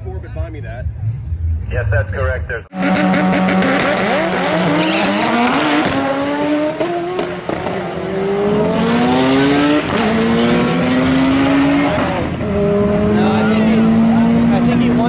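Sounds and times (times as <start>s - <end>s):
drag racing cars accelerating: 2.8s - 15.0s.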